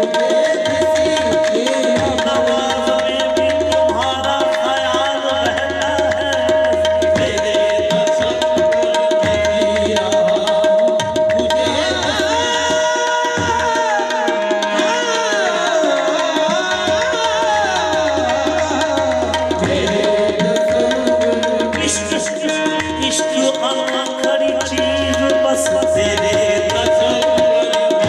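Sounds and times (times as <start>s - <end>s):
harmonium drone and melody: 0.0s - 28.0s
tabla beating: 0.0s - 28.0s.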